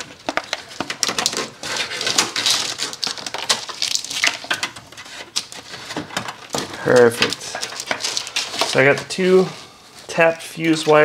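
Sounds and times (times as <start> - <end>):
wires scraping against plastic: 0.0 - 11.0.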